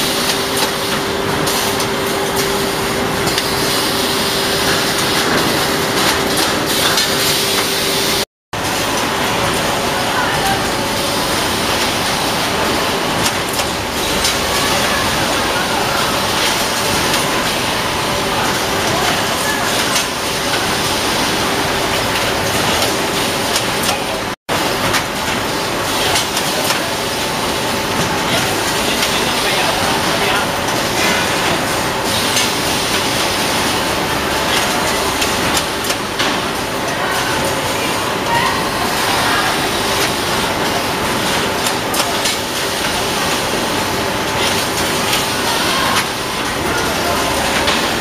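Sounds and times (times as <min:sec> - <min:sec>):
factory machinery din: 0:00.0 - 0:48.0.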